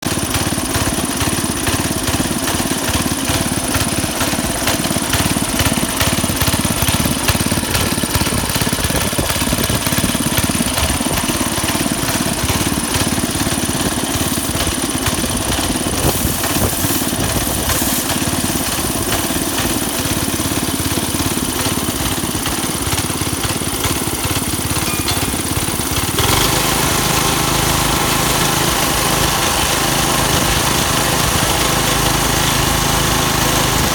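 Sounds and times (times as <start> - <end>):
small gasoline engine running: 0.0 - 33.9.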